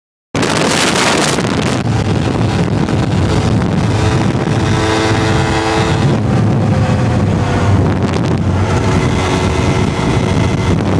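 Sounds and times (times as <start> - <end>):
motorcycle engine running: 0.4 - 10.9
wind rushing over microphone: 0.4 - 10.9.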